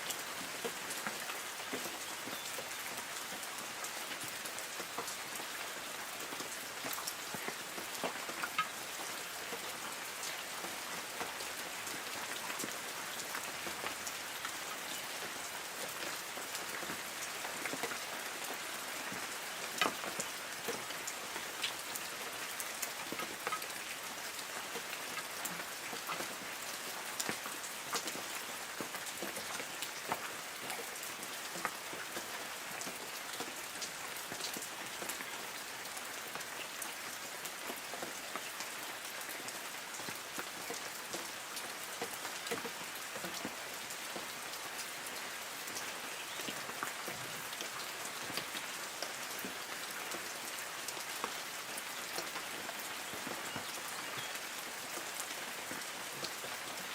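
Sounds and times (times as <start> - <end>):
light rain on trees: 0.0 - 56.9
raindrops ticking on leaves: 0.0 - 56.9.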